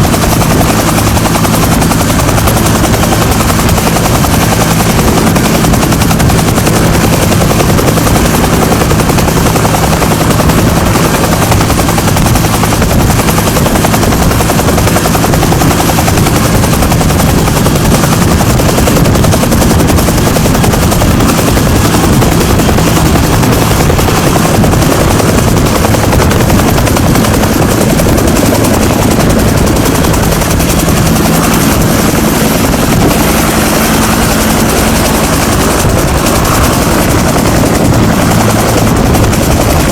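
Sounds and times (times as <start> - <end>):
helicopter rotor thumping: 0.0 - 39.9
turbine engine whine: 0.0 - 39.9.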